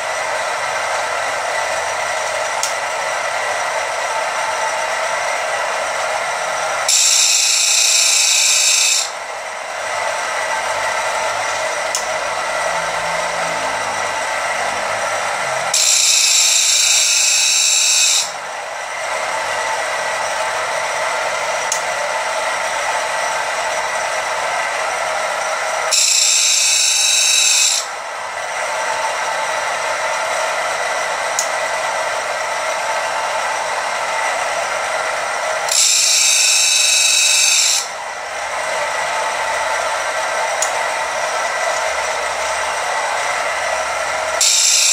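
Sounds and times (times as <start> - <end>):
high grinding hiss: 0.0 - 44.9
motor and grinding wheel whirring: 0.0 - 44.9.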